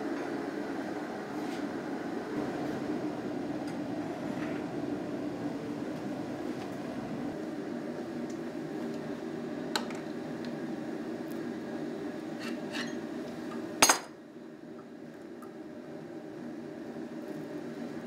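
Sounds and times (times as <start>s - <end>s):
workshop machinery drone: 0.0s - 18.0s.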